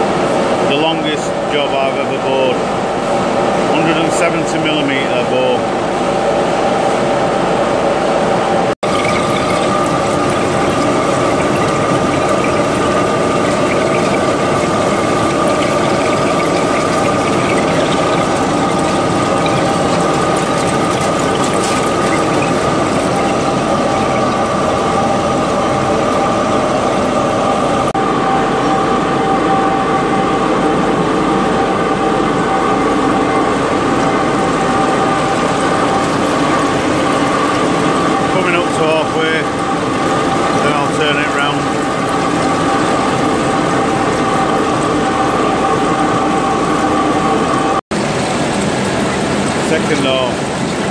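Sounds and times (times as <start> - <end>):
constant machine whine: 0.0 - 50.9
lathe cutting steel: 8.8 - 50.9.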